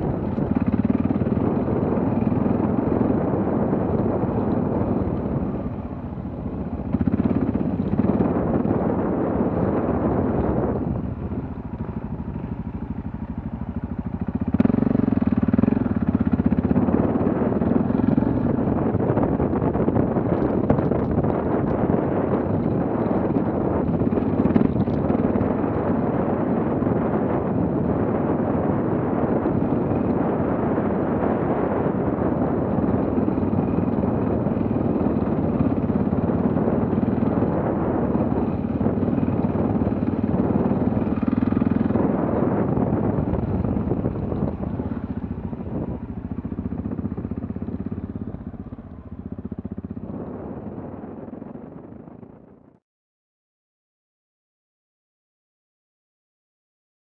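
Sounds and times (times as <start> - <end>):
motorcycle engine at low speed: 0.0 - 52.8
wind on microphone: 0.0 - 52.8.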